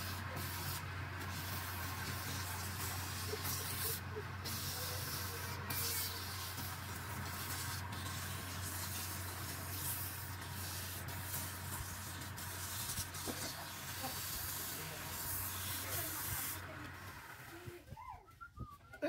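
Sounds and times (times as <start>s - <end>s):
sandpaper hissing on wood: 0.0s - 17.2s
wood lathe humming: 0.0s - 17.6s.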